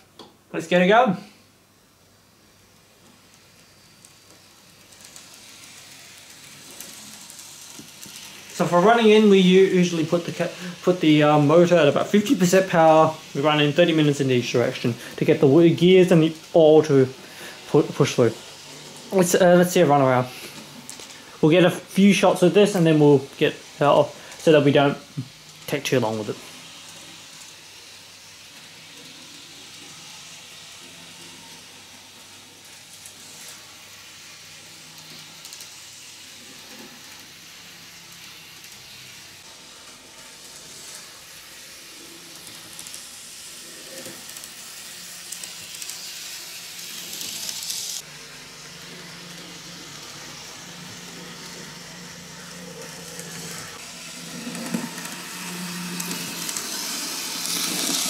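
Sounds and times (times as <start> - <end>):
model train motor whirring: 2.3 - 58.0.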